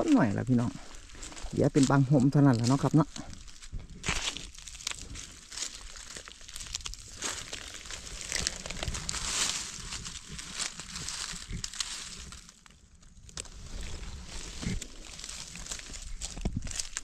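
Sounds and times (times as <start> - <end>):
dry leaves crackling and rustling: 0.0 - 17.0.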